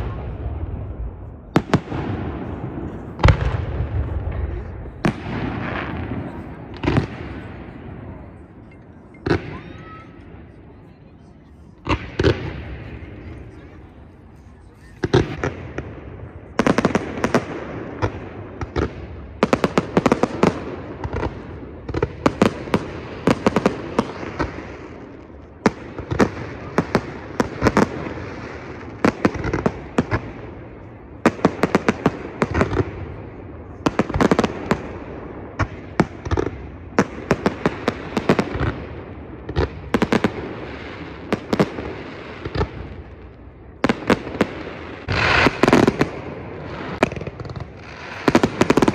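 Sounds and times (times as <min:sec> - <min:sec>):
fireworks bangs and pops: 0:00.0 - 0:10.0, 0:11.8 - 0:14.0, 0:14.7 - 0:48.9.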